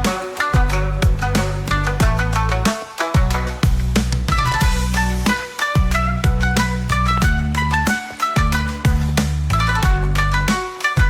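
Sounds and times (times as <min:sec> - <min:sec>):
upbeat plucked guitar music: 0:00.0 - 0:11.0.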